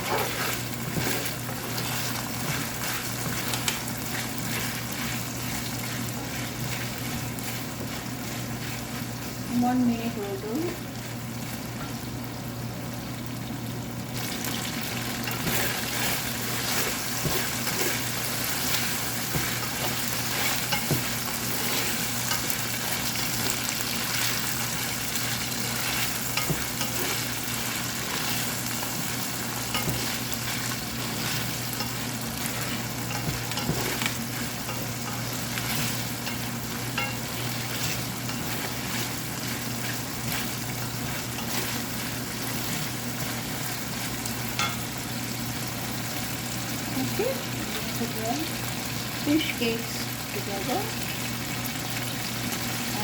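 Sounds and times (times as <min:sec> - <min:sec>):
shrimp sizzling in hot oil: 0:00.0 - 0:53.0.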